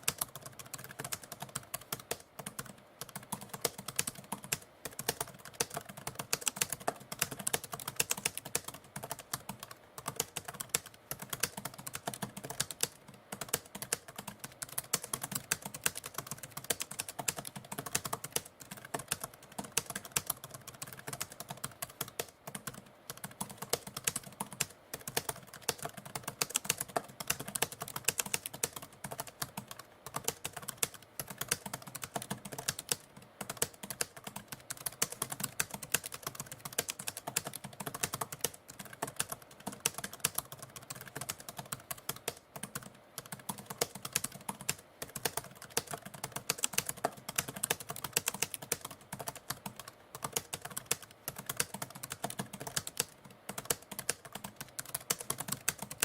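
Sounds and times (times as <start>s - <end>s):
typewriter keys clacking: 10.1s - 56.0s.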